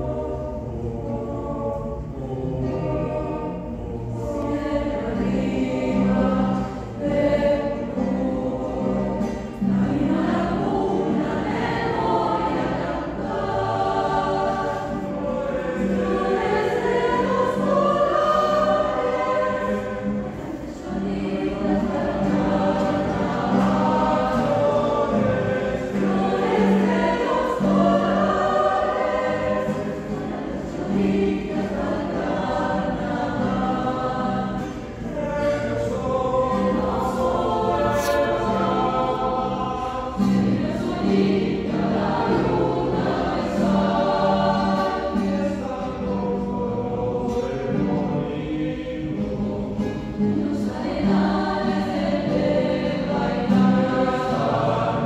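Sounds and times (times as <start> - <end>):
acoustic guitar accompaniment: 0.0 - 55.0
mixed choir singing folk song: 0.0 - 55.0.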